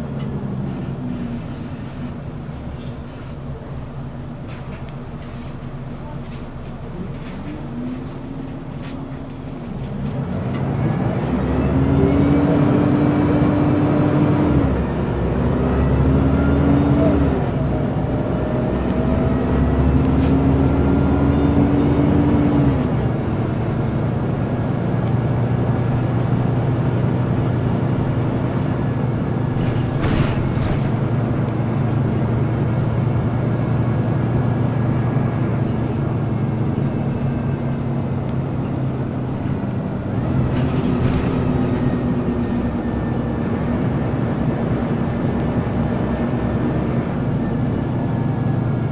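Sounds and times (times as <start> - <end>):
bus engine accelerating: 0.0 - 48.9.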